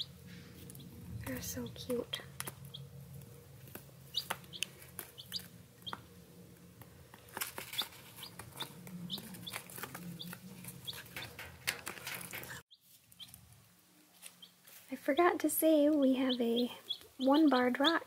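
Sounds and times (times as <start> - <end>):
chicks peeping: 0.0 - 6.1, 6.7 - 13.4, 14.1 - 18.0
low steady hum: 0.0 - 18.0.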